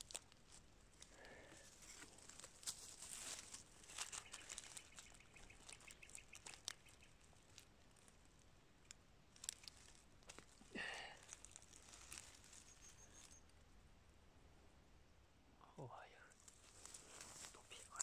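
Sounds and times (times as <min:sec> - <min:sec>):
pine needles rustling: 0:00.0 - 0:13.6, 0:16.0 - 0:18.0.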